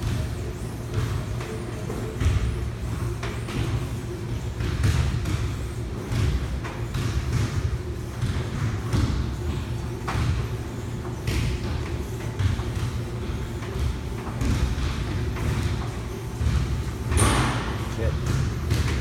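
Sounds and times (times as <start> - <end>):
cross-trainer low hum: 0.0 - 19.0.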